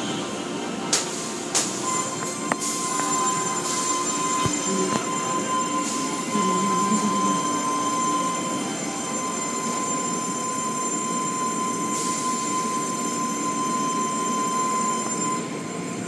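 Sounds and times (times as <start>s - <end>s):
car wash machinery noise: 0.0s - 16.0s
thin steady whine: 0.0s - 16.0s.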